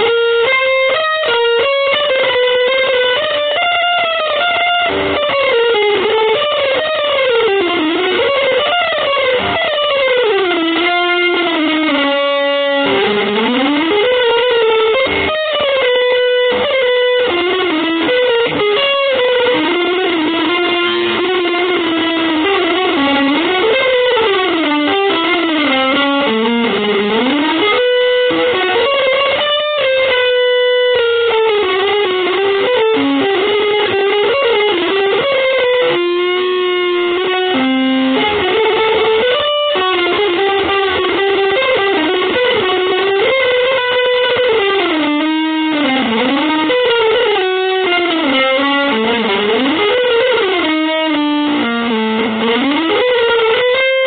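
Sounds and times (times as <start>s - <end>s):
electric guitar sliding melody: 0.0s - 54.0s.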